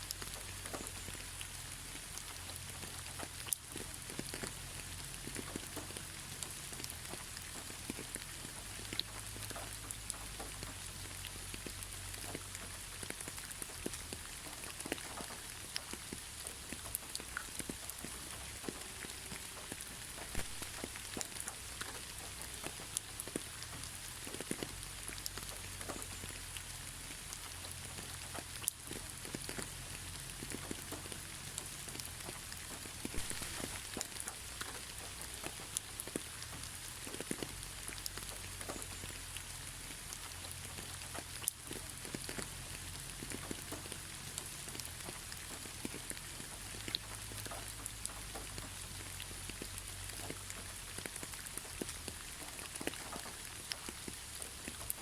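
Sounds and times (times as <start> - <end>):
raindrops ticking: 0.0 - 55.0
steady rain hiss: 0.0 - 55.0.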